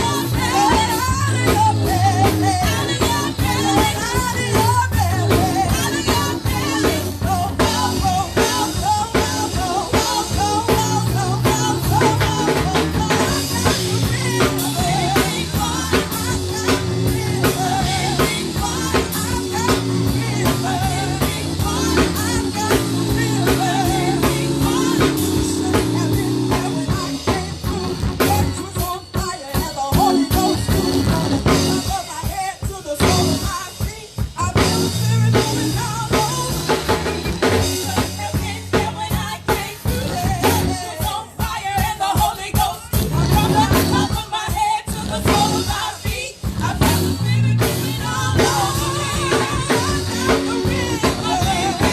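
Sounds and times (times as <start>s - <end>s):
drum kit beat: 0.0s - 51.9s
gospel band music: 0.0s - 51.9s
people singing: 0.0s - 51.9s.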